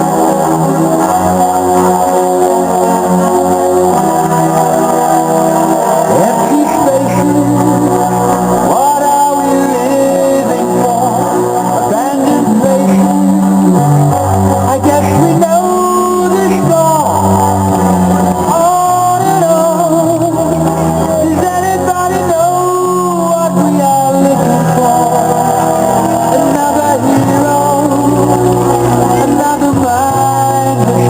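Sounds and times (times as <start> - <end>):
song with singing voice: 0.0 - 31.0.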